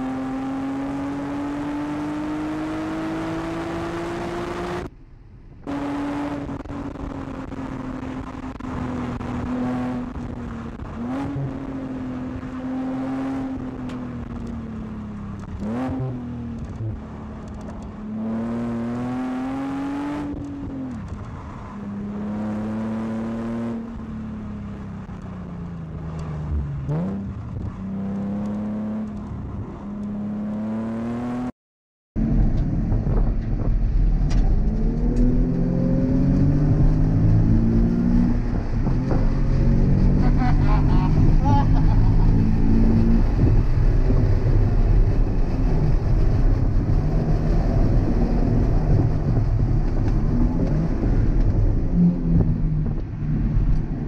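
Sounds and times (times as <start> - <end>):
car engine revving in cabin: 0.0 - 4.9, 5.6 - 25.2, 25.8 - 31.5, 32.2 - 54.0.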